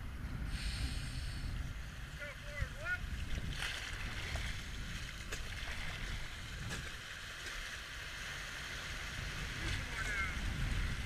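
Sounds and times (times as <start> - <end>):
rushing river water: 1.8 - 11.0.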